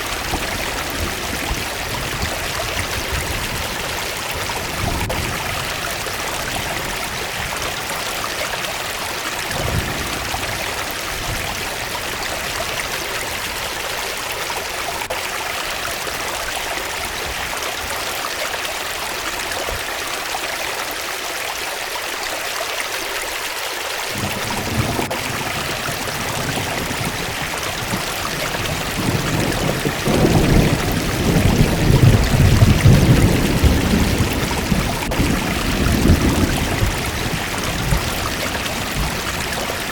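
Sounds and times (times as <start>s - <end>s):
deeper rush of water: 0.0s - 39.9s
waterfall rushing: 0.0s - 39.9s.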